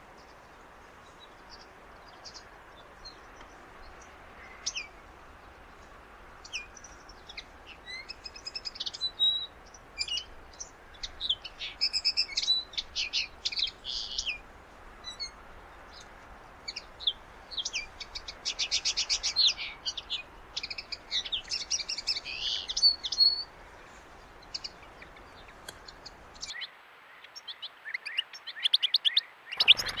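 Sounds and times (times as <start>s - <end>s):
steady background hiss: 0.0s - 30.0s
finch twittering song: 0.1s - 30.0s.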